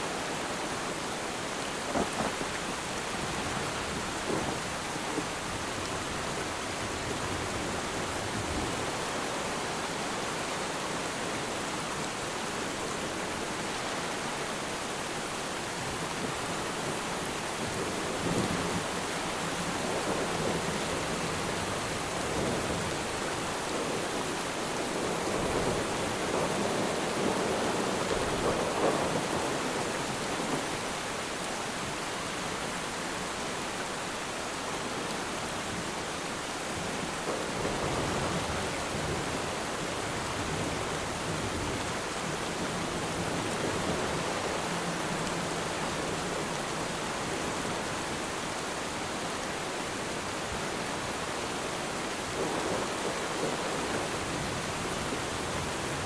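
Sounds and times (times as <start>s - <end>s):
rain falling on water: 0.0s - 56.0s.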